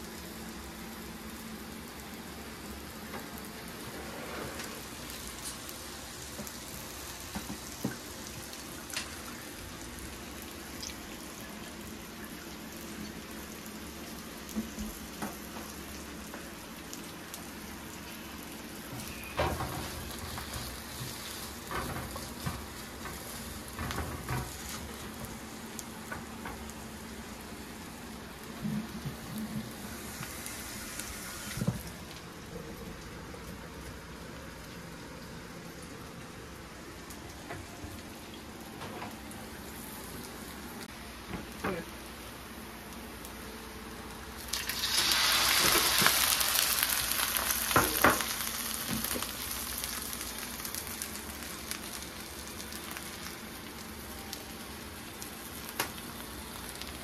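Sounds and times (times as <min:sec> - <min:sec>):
food sizzling in a pan: 0:00.0 - 0:35.4, 0:36.1 - 0:57.0.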